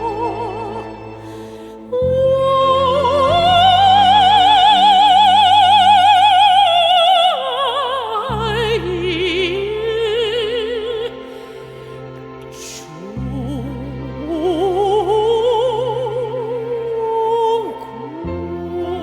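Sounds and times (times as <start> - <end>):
low instrumental accompaniment: 0.0 - 19.0.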